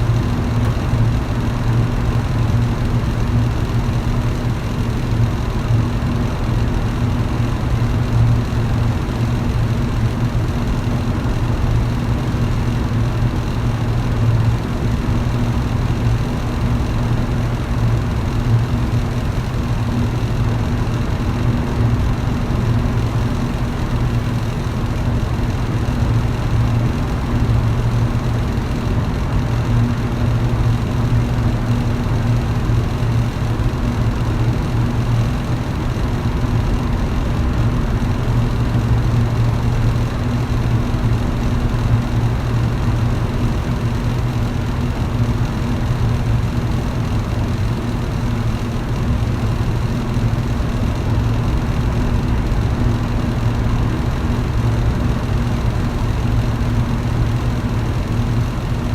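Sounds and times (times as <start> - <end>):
electric fan motor hum: 0.0 - 58.9.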